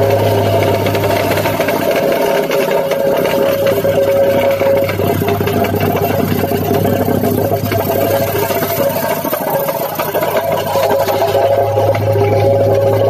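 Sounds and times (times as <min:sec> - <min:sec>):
plate compactor tamping rock: 0:00.0 - 0:13.0.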